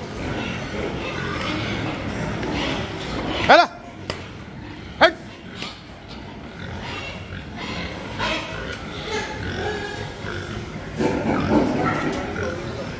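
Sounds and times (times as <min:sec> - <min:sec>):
pigs grunting: 0:00.0 - 0:12.9.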